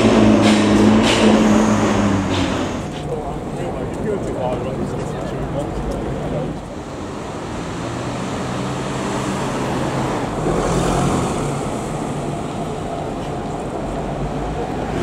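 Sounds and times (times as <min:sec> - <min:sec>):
car engines running: 0:00.0 - 0:15.0
vehicle passing: 0:00.0 - 0:15.0.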